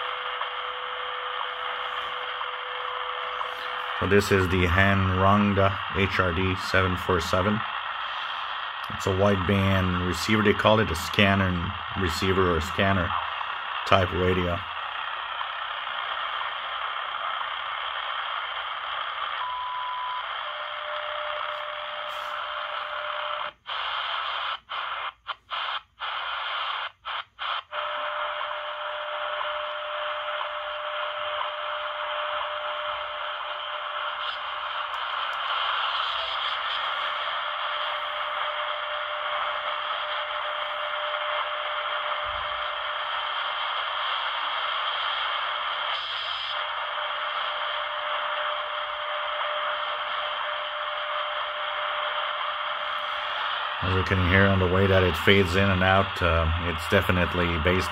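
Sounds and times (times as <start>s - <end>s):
radio static hiss: 0.0s - 57.9s
radio time signal tones: 0.0s - 57.9s.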